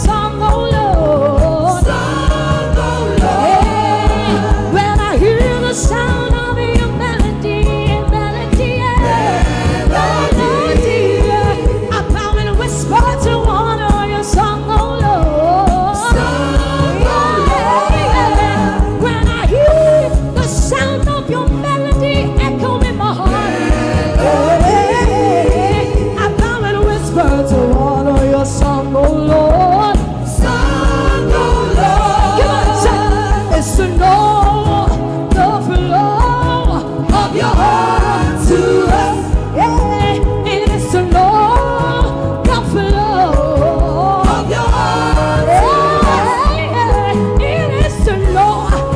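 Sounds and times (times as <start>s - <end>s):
band playing a steady beat: 0.0s - 48.9s
person singing wordless vocals: 0.0s - 48.9s.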